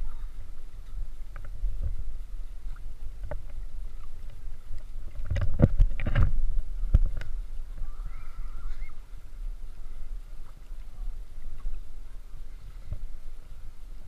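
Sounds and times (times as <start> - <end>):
low wind rumble: 0.0 - 14.0
sea water sloshing and splashing: 0.0 - 14.0.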